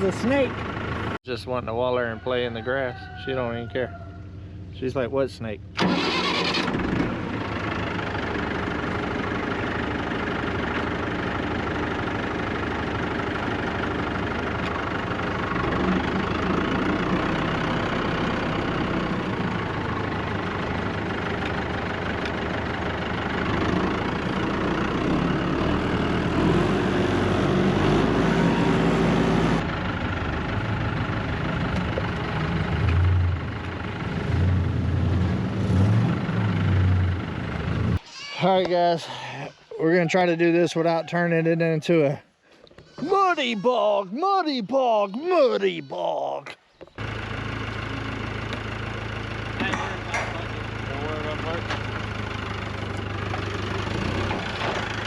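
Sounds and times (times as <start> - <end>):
deep pulsing engine notes: 0.0 - 38.0, 47.0 - 55.0
vehicle engine running: 0.0 - 38.0, 47.0 - 55.0.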